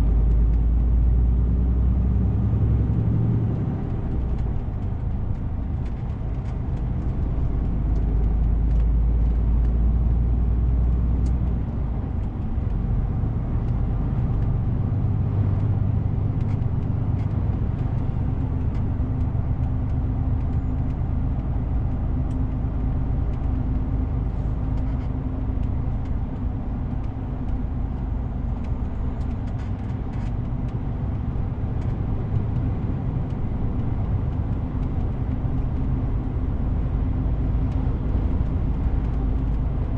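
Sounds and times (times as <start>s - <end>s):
road noise: 0.0s - 39.9s
truck diesel engine driving: 0.0s - 39.9s.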